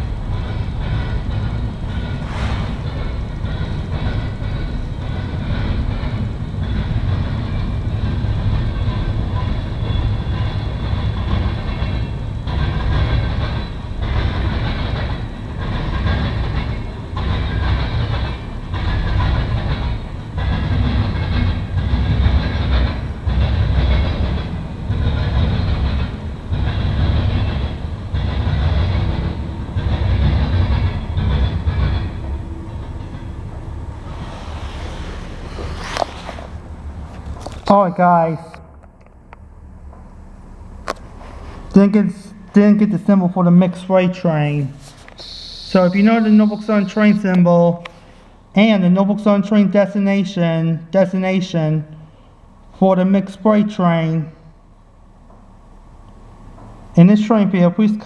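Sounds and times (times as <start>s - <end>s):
faint high wheel tones: 0.0s - 37.8s, 39.0s - 48.6s
train wheels rumbling on rail: 0.0s - 58.0s.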